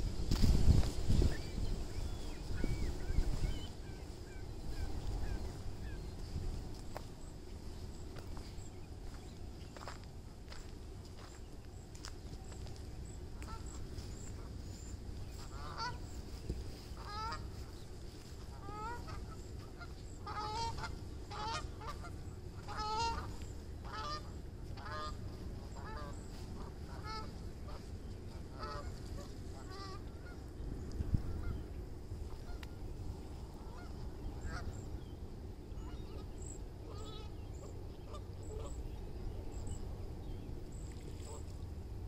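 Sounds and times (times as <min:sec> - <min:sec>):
low steady rumble: 0:00.0 - 0:42.0
geese honking: 0:01.2 - 0:41.6.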